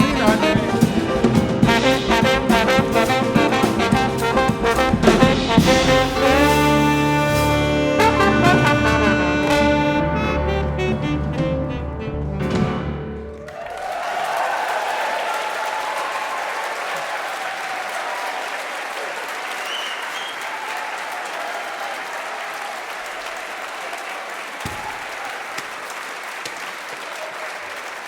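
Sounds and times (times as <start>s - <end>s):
audience applauding and cheering: 0.0s - 11.1s, 13.1s - 28.0s.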